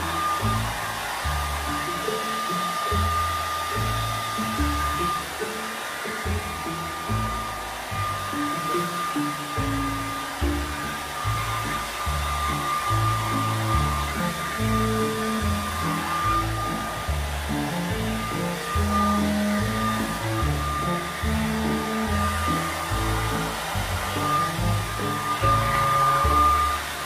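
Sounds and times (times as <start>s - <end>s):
background music: 0.0s - 27.0s
hair dryer blowing: 0.0s - 27.0s.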